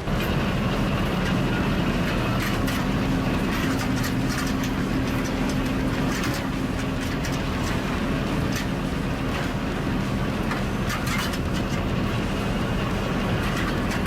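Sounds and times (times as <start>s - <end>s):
heavy machinery engine drone: 0.0s - 14.0s.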